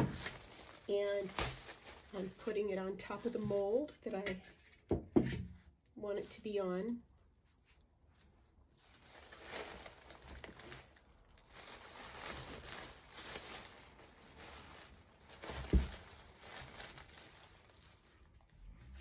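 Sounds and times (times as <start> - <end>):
plastic wrapping crinkling: 0.0 - 4.2, 7.6 - 19.0.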